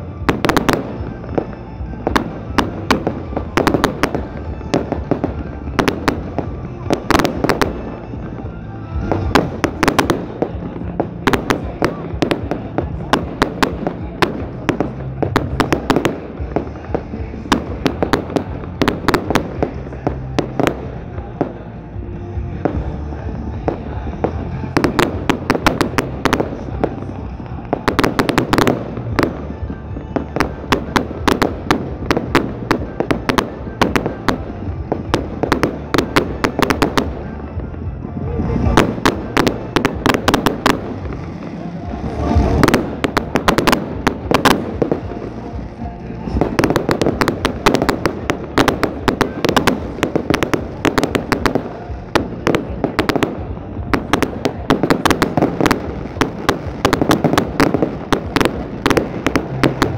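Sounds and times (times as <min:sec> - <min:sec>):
fireworks cracking and banging: 0:00.0 - 0:59.9
music: 0:00.0 - 0:59.9.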